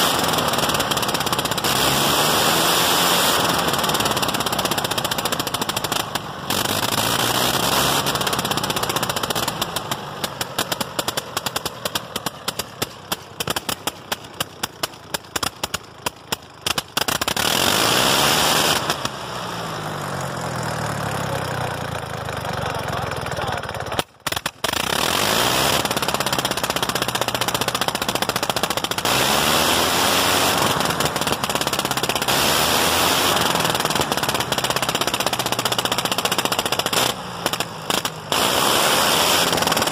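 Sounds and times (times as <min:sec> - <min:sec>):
rotary aircraft engine running: 0:00.0 - 0:39.9.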